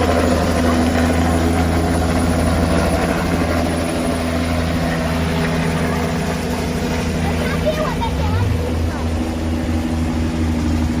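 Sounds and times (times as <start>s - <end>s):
helicopter engine and rotor: 0.0s - 11.0s.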